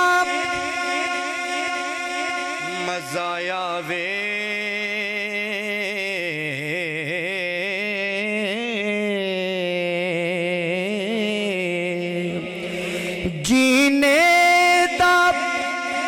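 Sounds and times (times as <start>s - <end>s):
man singing a long note: 0.0s - 16.0s.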